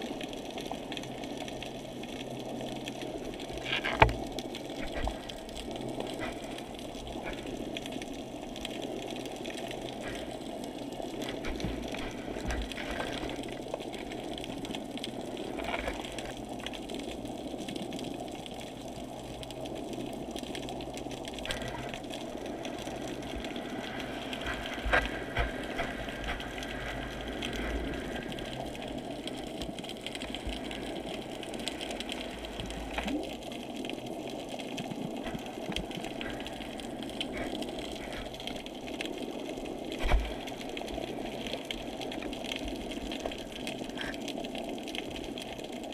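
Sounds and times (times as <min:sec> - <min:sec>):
muffled underwater water rush: 0:00.0 - 0:45.9.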